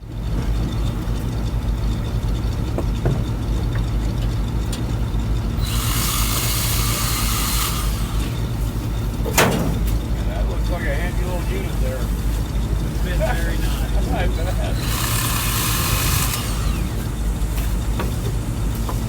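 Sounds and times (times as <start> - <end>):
machine engine running: 0.0 - 19.0.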